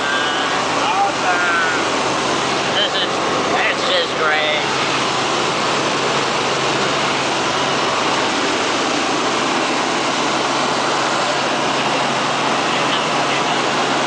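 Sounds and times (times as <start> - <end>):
helicopter engine and rotor: 0.0 - 14.0.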